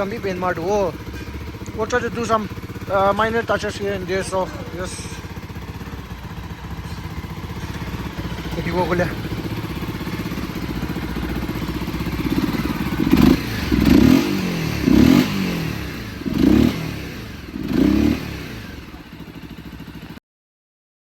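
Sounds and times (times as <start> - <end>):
motorcycle engine revving: 0.0 - 20.2.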